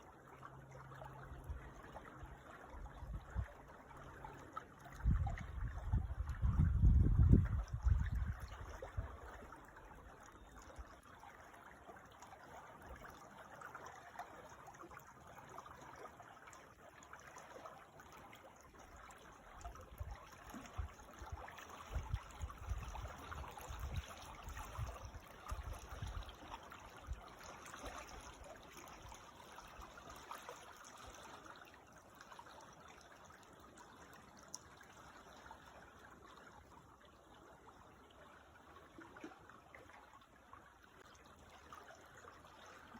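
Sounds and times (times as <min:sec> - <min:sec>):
creek water trickling: 0:00.0 - 0:42.9.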